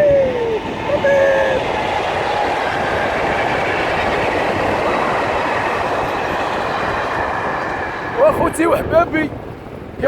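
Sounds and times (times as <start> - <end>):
train wagons rumbling on rails: 0.0 - 10.0.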